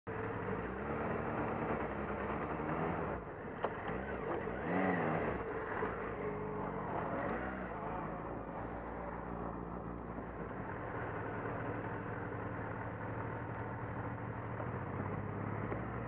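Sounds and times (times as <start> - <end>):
car engine running: 0.1 - 16.0
motorcycle engine running: 0.1 - 16.0.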